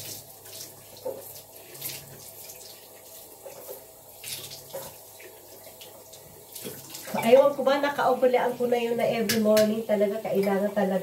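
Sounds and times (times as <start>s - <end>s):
water splashes: 0.0s - 9.8s.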